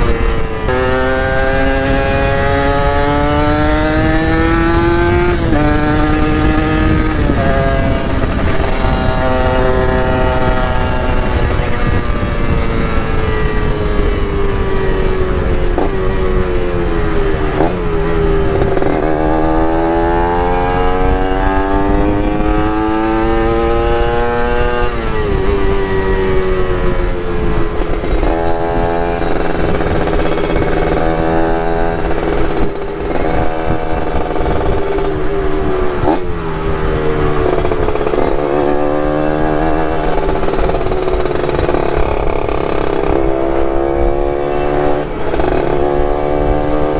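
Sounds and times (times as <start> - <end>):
motorcycle engine accelerating: 0.0 - 46.9
rushing wind noise: 0.0 - 46.9.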